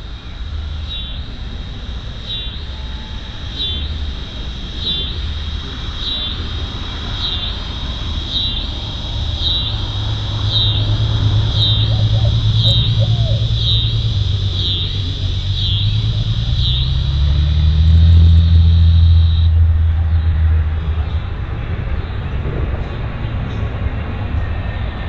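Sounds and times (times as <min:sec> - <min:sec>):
crickets chirring: 0:00.0 - 0:25.0
low rumble: 0:00.0 - 0:25.0.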